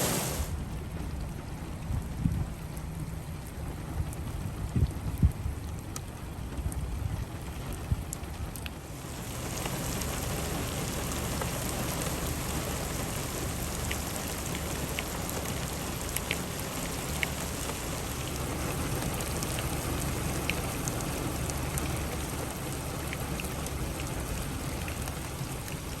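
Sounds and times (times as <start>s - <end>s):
heavy rain downpour: 0.0s - 26.0s
raindrops ticking on surfaces: 0.0s - 26.0s.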